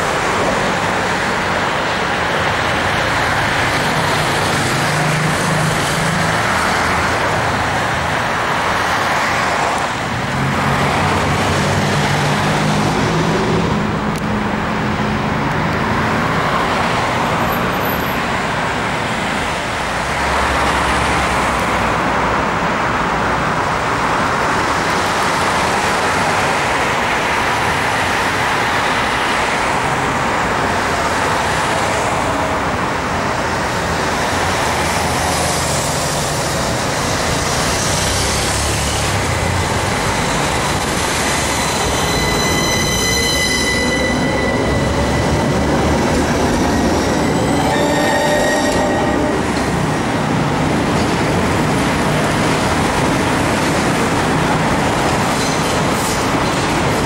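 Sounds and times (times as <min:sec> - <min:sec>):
cars and motorbikes passing: 0:00.0 - 0:57.0.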